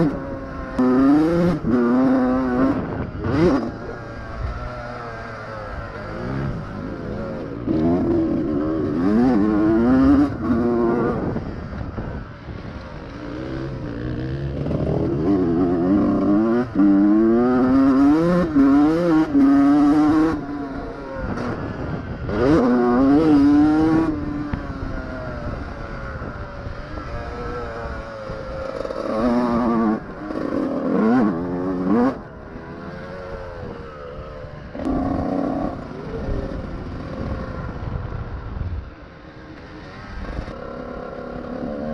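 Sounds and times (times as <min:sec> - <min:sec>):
motocross engine revving: 0:00.0 - 0:11.7, 0:13.0 - 0:37.8.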